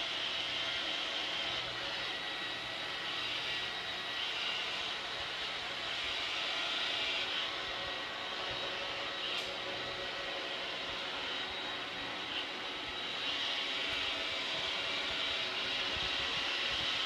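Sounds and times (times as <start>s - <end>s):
electric fan whirring: 0.0s - 17.0s.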